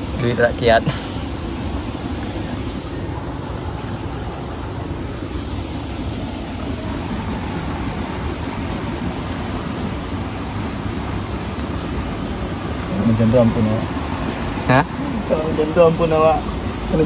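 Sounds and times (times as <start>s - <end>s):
boat motor running: 0.0s - 17.0s.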